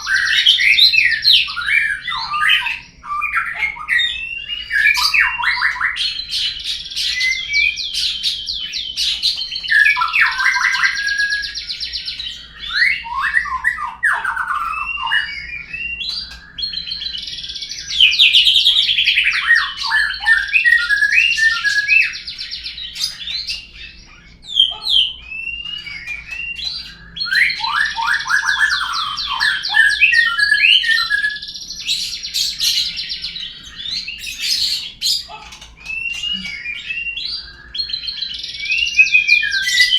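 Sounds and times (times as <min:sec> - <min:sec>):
bird whistles and trills: 0:00.0 - 0:39.9.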